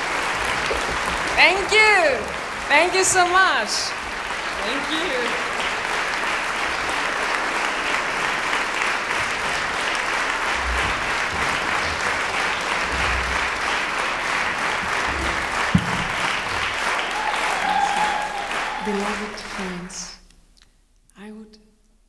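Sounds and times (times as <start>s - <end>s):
audience applauding: 0.0s - 20.1s.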